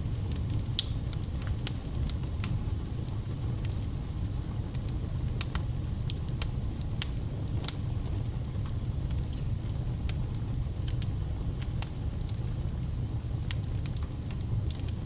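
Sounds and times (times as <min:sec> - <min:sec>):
low rumble of flame: 0:00.0 - 0:15.0.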